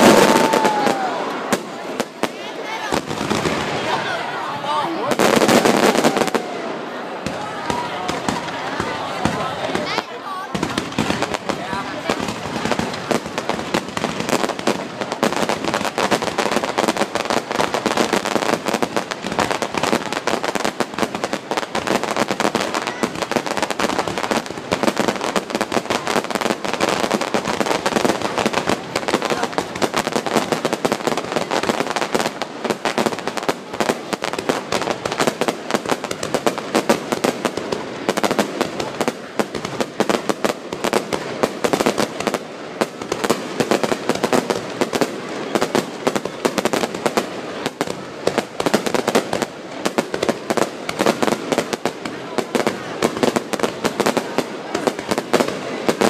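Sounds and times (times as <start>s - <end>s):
fireworks crackling barrage: 0.0s - 56.0s.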